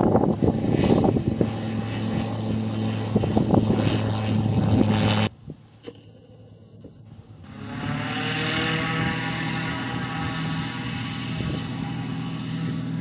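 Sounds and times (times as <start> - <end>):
light aircraft engine running: 0.0 - 13.0.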